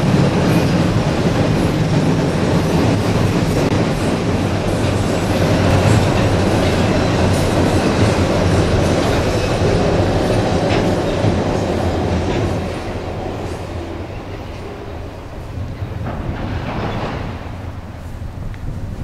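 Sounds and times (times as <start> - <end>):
train wheels clacking over rail joints: 0.0 - 18.7
freight train rolling over bridge: 0.0 - 19.0.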